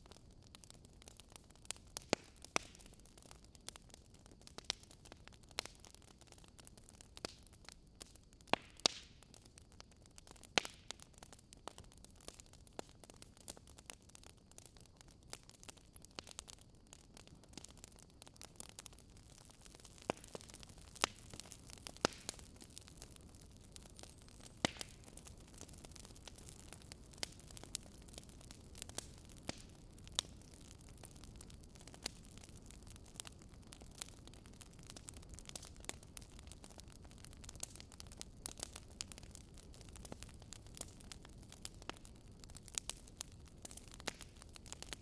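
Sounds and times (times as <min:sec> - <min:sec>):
faint steady hiss: 0:00.0 - 0:45.0
wood fire crackling: 0:00.0 - 0:45.0.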